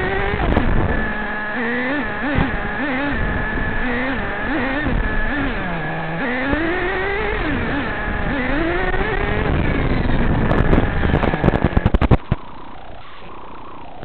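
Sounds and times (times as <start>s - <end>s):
small glow engine running: 0.0s - 14.0s.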